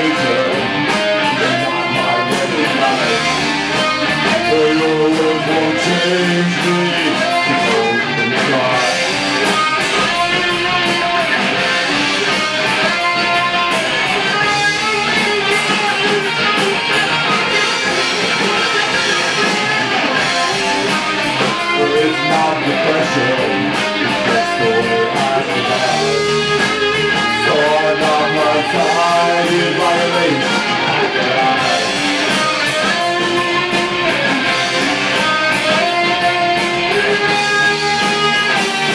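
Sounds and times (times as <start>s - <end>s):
electric bass guitar: 0.0s - 38.9s
electric guitar: 0.0s - 38.9s
rock band playing live: 0.0s - 38.9s.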